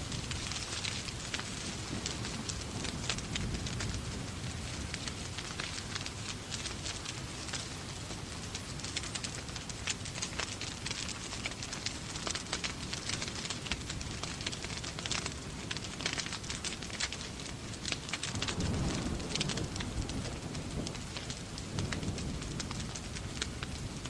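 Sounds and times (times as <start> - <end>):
rain hissing: 0.0 - 24.0
wood fire crackling: 0.0 - 24.0.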